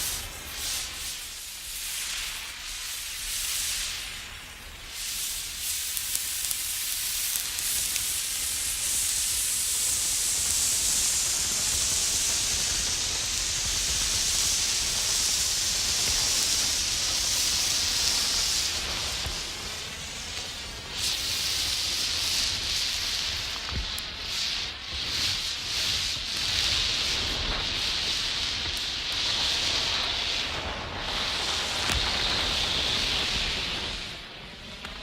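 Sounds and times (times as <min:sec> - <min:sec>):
flare burning with hiss: 0:00.0 - 0:35.0.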